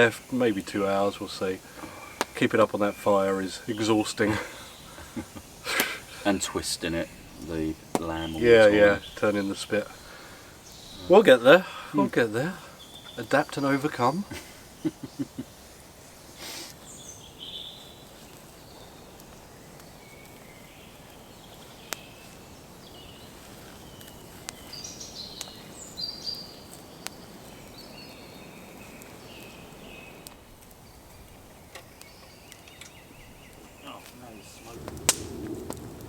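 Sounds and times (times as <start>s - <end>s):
wood fire crackling pops: 0.0s - 17.0s, 17.8s - 22.4s, 23.2s - 36.0s
birds chirping and trilling: 0.0s - 36.0s
faint steady hiss: 0.0s - 36.0s.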